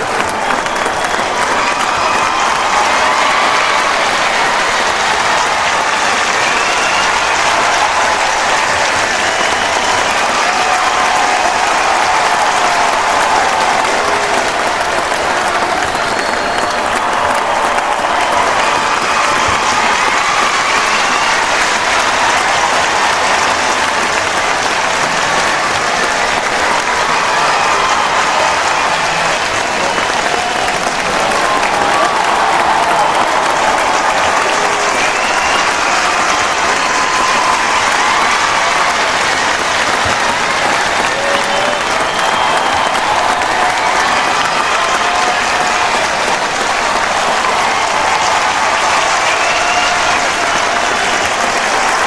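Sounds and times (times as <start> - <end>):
crowd applauding: 0.0 - 52.0
faint cheering voices: 0.0 - 52.0.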